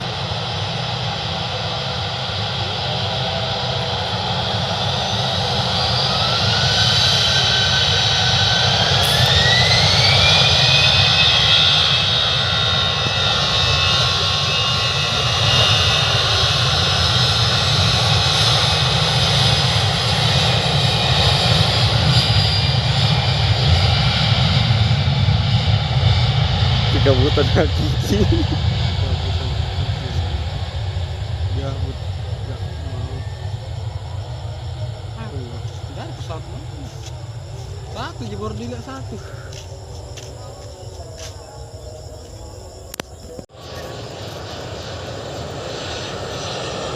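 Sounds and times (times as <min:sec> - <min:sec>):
airplane engines whining: 0:00.0 - 0:46.9.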